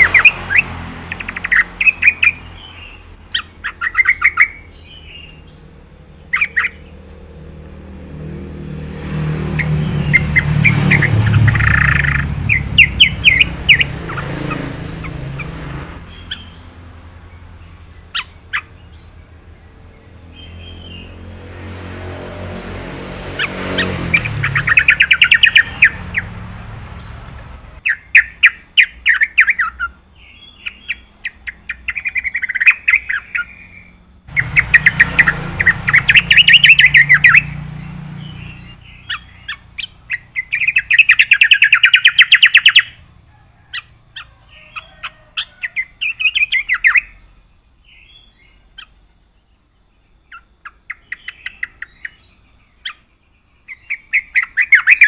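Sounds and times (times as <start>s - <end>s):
bird chattering song: 0.0s - 21.3s, 23.3s - 43.0s, 43.6s - 55.0s.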